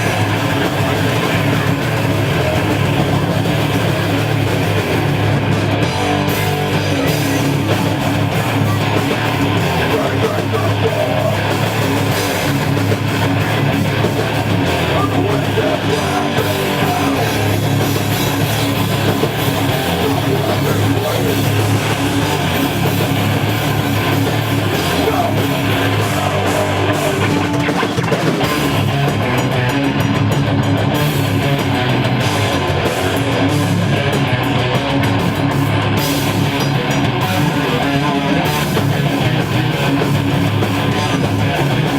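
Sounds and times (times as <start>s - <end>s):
thrash metal band playing live: 0.0s - 41.9s.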